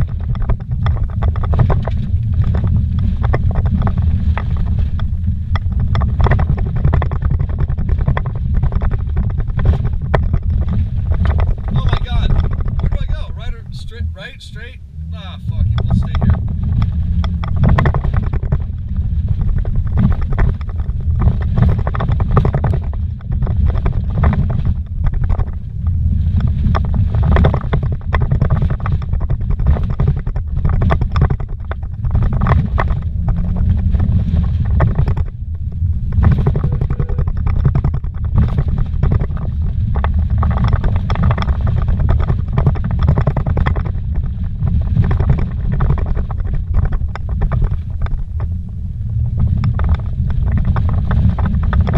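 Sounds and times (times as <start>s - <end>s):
knocks and rattles: 0.0s - 14.7s, 15.4s - 51.9s
vehicle on rough dirt road: 0.0s - 51.9s.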